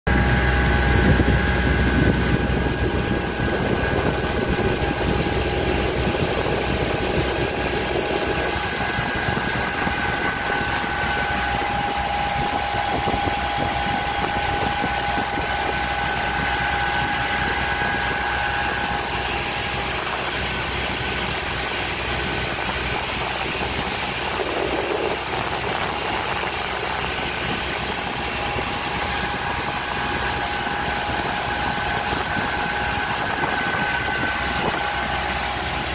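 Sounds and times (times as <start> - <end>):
high engine whine: 0.1 - 35.9
motorboat engine running: 0.1 - 35.9
wind and water rushing: 0.1 - 35.9.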